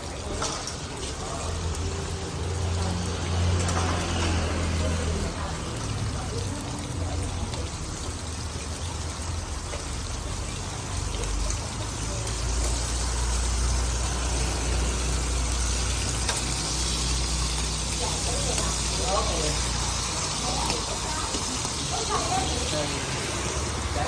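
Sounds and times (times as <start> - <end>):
faint voices: 0.0 - 24.0
passing engine traffic rumble: 0.1 - 24.0.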